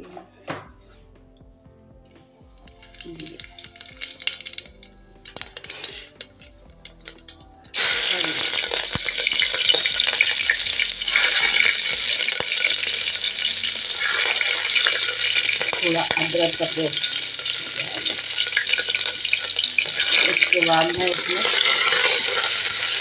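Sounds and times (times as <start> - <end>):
seeds popping in hot oil: 2.4 - 23.0
loud sizzle in oil: 2.5 - 23.0.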